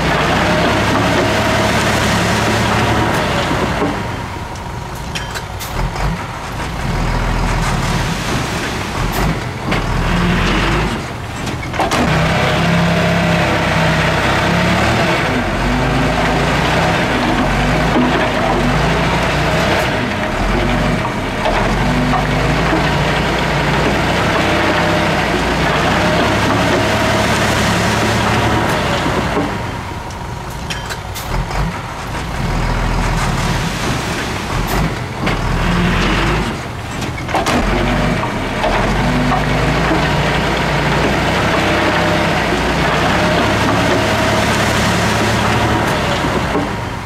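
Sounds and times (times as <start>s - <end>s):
heavy diesel engine under load: 0.0s - 47.0s.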